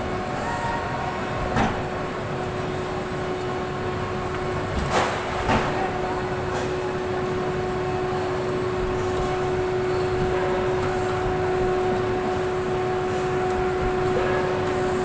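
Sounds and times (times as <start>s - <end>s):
industrial machinery humming: 0.0s - 15.0s.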